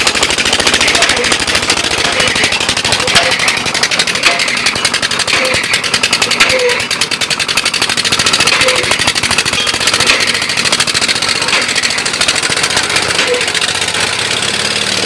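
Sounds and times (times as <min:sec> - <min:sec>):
diesel engine knocking: 0:00.0 - 0:15.0.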